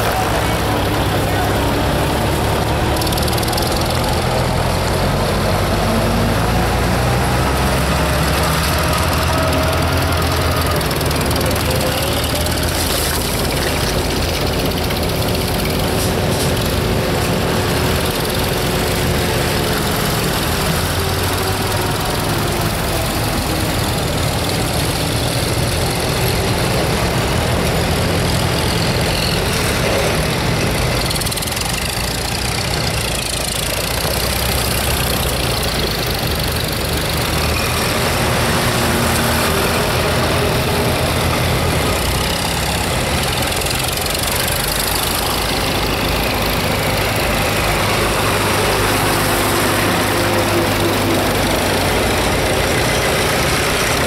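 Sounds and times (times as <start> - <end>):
tractor engines driving past: 0.0 - 54.0.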